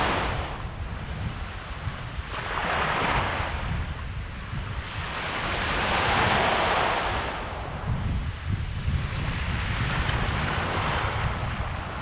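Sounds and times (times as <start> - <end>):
waves breaking on beach: 0.0 - 12.0
wind on microphone: 0.0 - 12.0.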